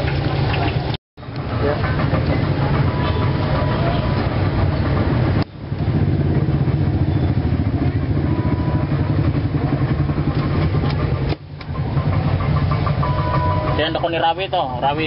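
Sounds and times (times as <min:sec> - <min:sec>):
small engine idling: 0:00.2 - 0:15.0.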